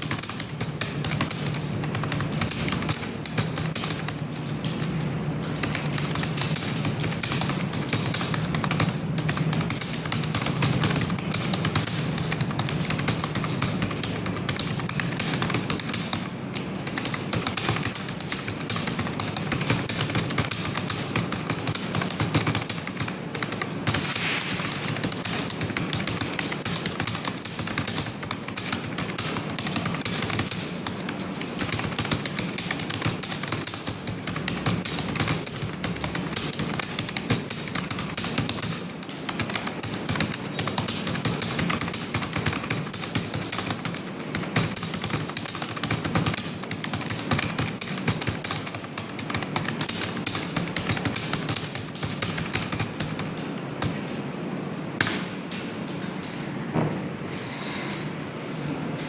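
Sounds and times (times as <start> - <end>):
typing on computer keyboard: 0.0 - 57.3.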